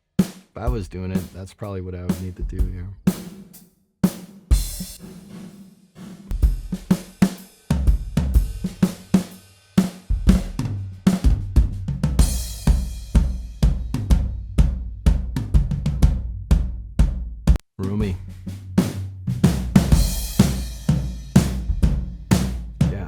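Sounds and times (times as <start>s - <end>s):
drum kit pop groove: 0.0s - 23.0s.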